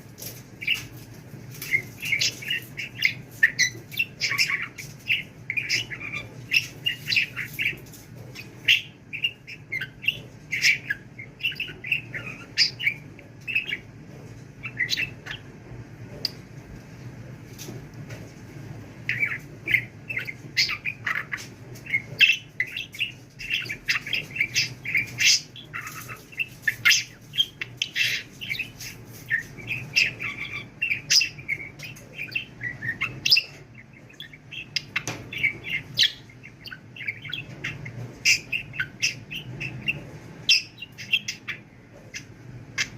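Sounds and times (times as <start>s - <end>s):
budgerigar chirping and warbling: 1.6s - 13.9s, 14.6s - 15.5s, 19.1s - 42.9s.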